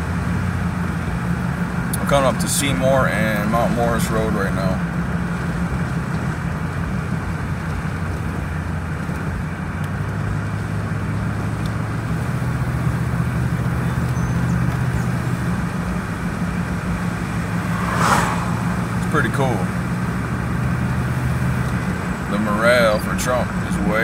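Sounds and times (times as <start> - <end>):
road noise: 0.0 - 24.0
truck engine hum: 0.0 - 24.0.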